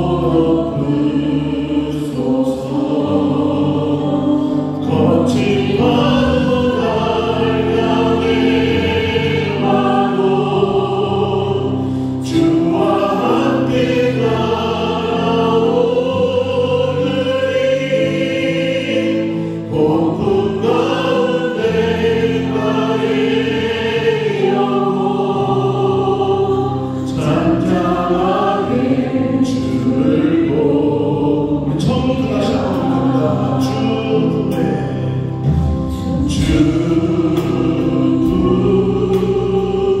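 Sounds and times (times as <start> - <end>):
group singing a gospel hymn: 0.0 - 40.0.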